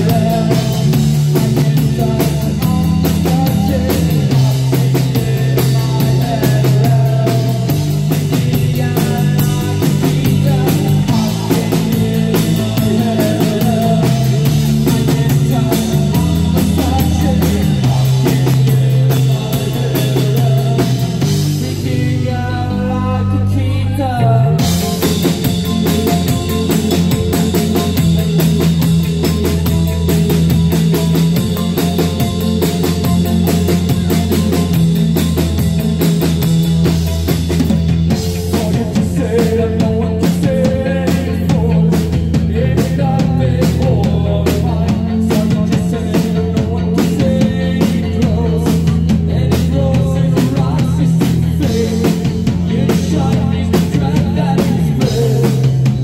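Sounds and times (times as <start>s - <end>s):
drum kit beat: 0.0s - 22.8s, 24.5s - 56.0s
bass guitar: 0.0s - 56.0s
electric guitar: 0.0s - 56.0s
high held tone: 0.0s - 56.0s
keyboards: 0.0s - 56.0s.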